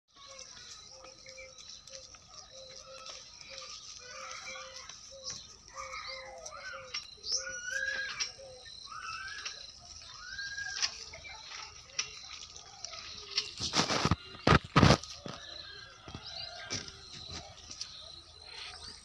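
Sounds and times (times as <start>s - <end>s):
birds chirping: 0.1s - 19.0s.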